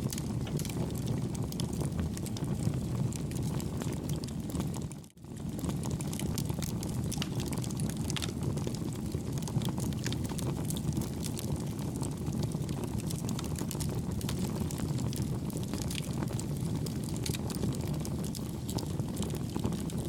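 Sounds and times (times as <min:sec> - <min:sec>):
campfire flames rushing: 0:00.0 - 0:20.0
fire crackling and popping: 0:00.0 - 0:20.0.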